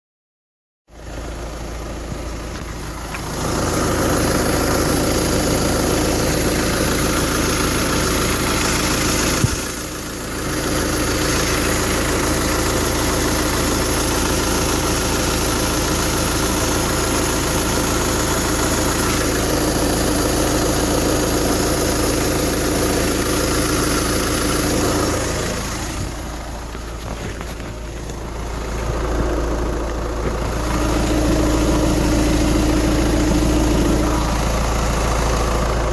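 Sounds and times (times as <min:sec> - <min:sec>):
diesel engine running: 0:00.9 - 0:35.9
loud noise under car front: 0:01.8 - 0:35.9.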